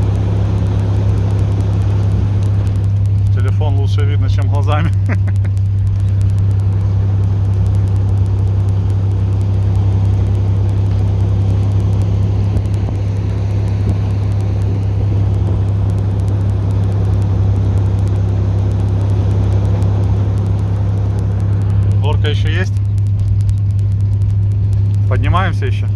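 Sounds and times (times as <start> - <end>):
diesel locomotive engine drone: 0.0 - 25.9.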